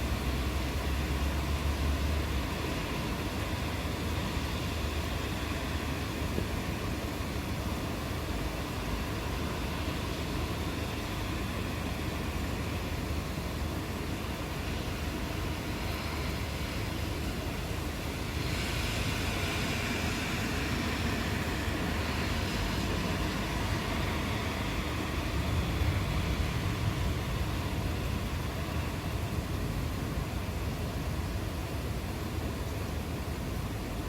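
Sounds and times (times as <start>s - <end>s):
steady rain hissing: 0.0s - 34.0s.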